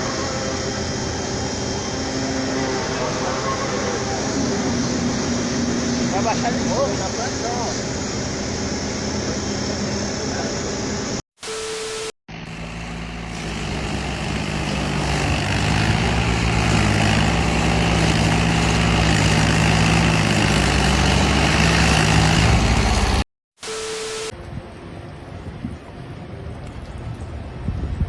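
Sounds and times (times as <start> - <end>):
vehicle engine humming: 0.0 - 11.2, 12.3 - 25.3.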